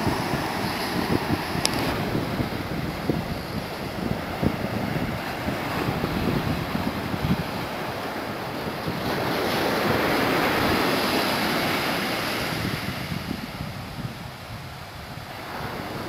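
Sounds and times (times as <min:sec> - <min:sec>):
surf washing up beach: 0:00.0 - 0:16.0
wind buffeting microphone: 0:00.0 - 0:16.0.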